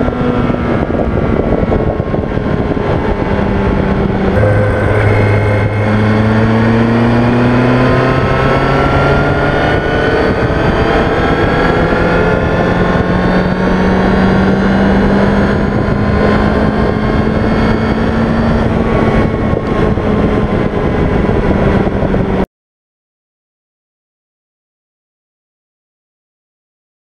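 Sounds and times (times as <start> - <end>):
motorcycle engine accelerating: 0.0 - 22.4
wind noise on microphone: 0.0 - 22.5.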